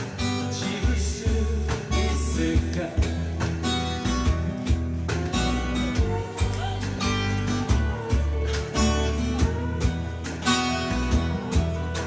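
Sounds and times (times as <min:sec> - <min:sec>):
acoustic guitar strumming: 0:00.0 - 0:12.0
deep bass line: 0:00.0 - 0:12.0.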